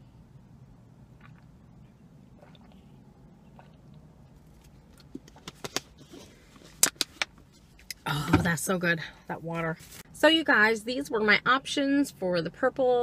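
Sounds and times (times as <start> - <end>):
car interior hum: 0.0 - 13.0.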